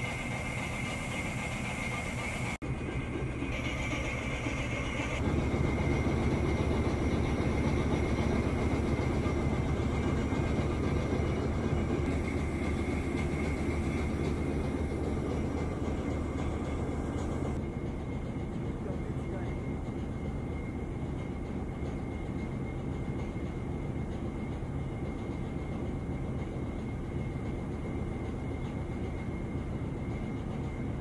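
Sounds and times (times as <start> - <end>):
diesel locomotive engine: 0.0 - 31.0
thin steady whine: 0.0 - 31.0.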